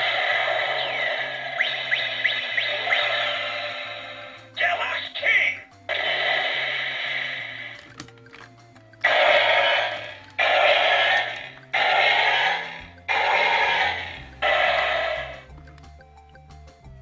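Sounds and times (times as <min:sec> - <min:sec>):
toy electronic hissing burst: 0:00.0 - 0:08.0, 0:09.0 - 0:15.5
background music: 0:00.0 - 0:17.0.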